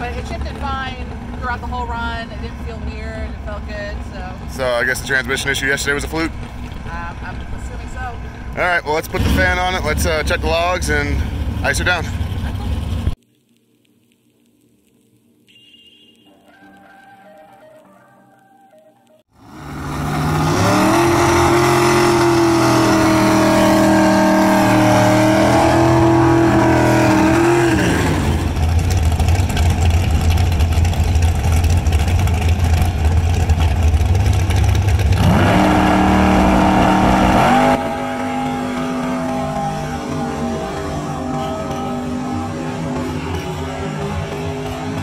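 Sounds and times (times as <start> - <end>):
car engine revving: 0.0 - 13.2, 19.4 - 45.0.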